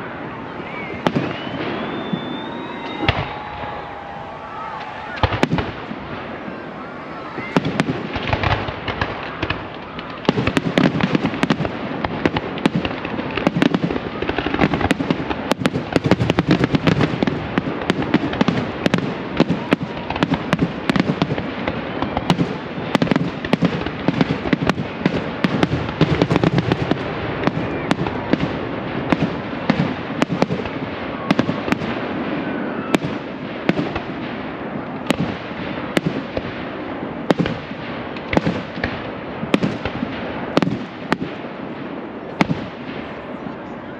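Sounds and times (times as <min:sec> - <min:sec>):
constant rumbling din: 0:00.0 - 0:43.9.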